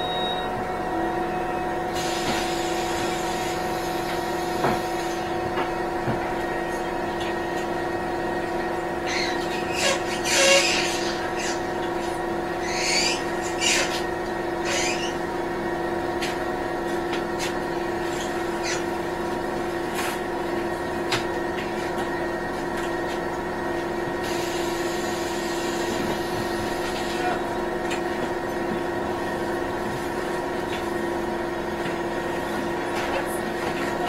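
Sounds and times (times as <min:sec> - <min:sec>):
bus engine hum and whine: 0:00.0 - 0:34.0.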